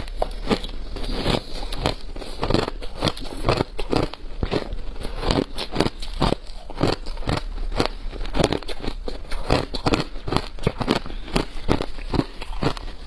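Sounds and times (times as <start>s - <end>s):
ice crunching between teeth: 0.0s - 13.0s.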